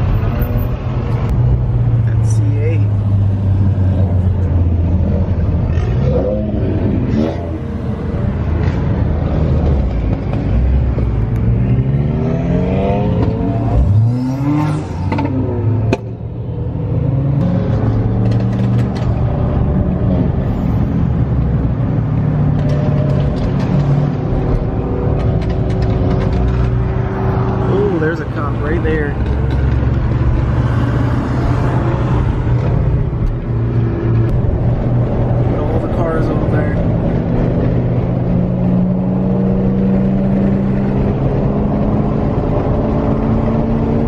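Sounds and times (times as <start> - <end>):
car engines droning: 0.0 - 44.0
engine revving: 5.5 - 10.8, 11.4 - 44.0.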